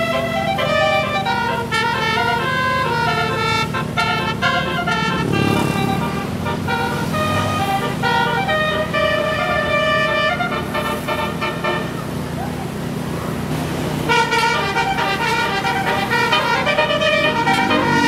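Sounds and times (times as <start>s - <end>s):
low engine drone: 0.0s - 18.0s
multi-note bus horn melody: 0.0s - 18.0s.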